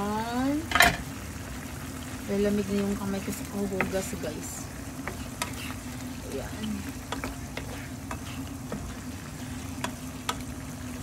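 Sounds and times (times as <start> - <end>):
meat sizzling in sauce: 0.0 - 11.0.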